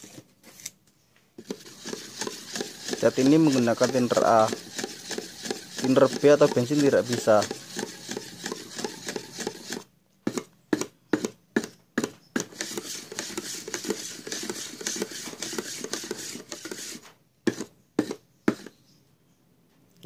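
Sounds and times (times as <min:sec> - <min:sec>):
stick stirring paint in can: 0:01.4 - 0:18.8.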